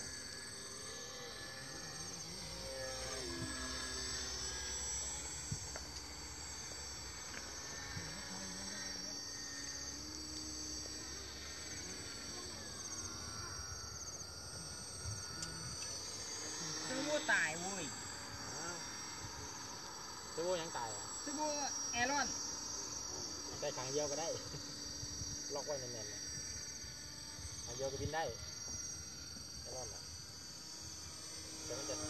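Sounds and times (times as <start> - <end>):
insects chirring: 0.0 - 32.0
model plane motor whine: 0.0 - 32.0.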